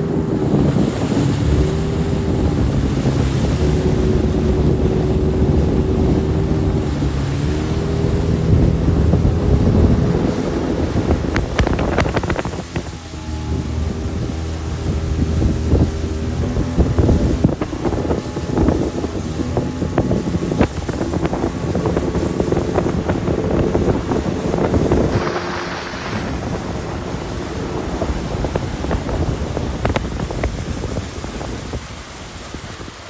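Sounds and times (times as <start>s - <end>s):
motorboat engine: 0.0s - 33.0s
water splashing: 0.0s - 33.0s
wind buffeting microphone: 0.0s - 33.0s.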